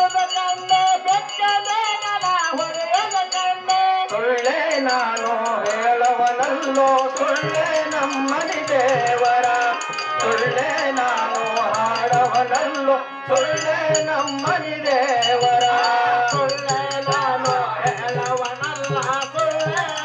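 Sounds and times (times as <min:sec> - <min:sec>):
man singing through a loudspeaker: 0:00.0 - 0:20.0
tabla rhythm: 0:00.0 - 0:20.0.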